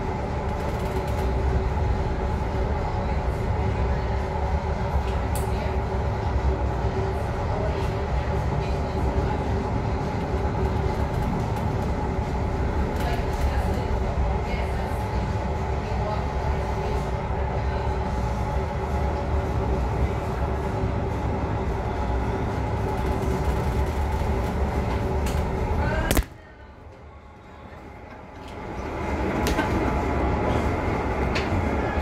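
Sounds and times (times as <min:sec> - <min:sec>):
ship interior low drone: 0:00.0 - 0:32.0.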